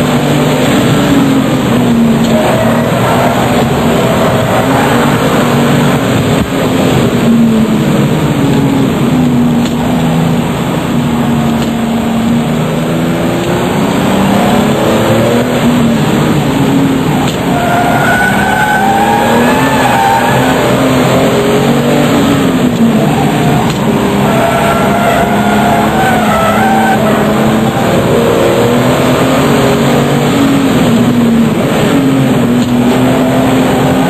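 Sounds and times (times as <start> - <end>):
car engine revving hard: 0.0 - 34.0.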